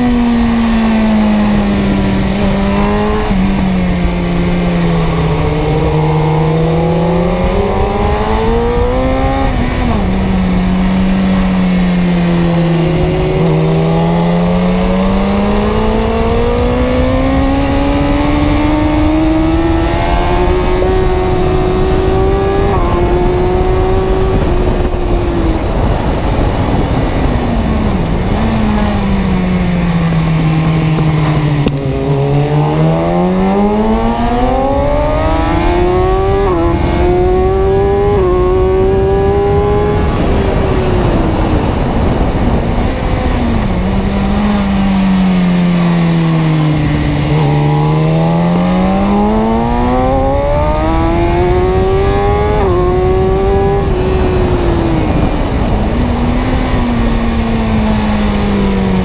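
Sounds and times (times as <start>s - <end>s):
vehicle engine accelerating: 0.0s - 59.0s.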